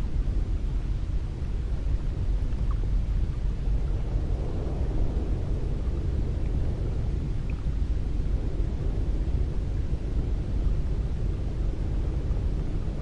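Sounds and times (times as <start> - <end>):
wind blowing: 0.0 - 13.0.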